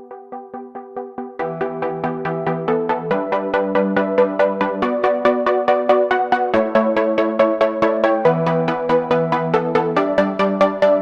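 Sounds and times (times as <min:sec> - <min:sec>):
held synth chords: 0:00.0 - 0:11.0
synthesizer plucked notes: 0:00.0 - 0:11.0.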